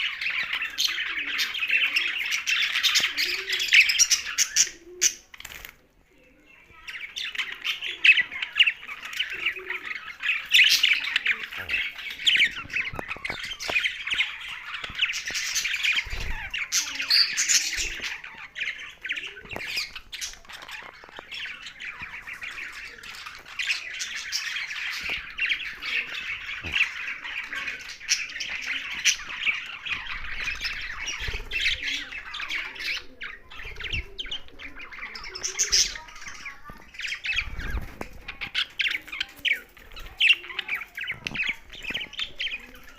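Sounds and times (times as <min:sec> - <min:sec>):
budgerigars and parrots chattering: 0:00.0 - 0:42.9.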